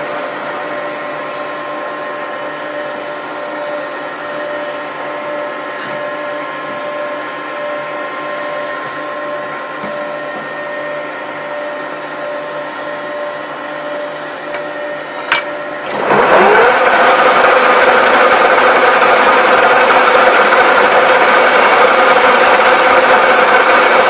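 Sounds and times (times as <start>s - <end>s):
lathe humming whine: 0.0s - 24.0s.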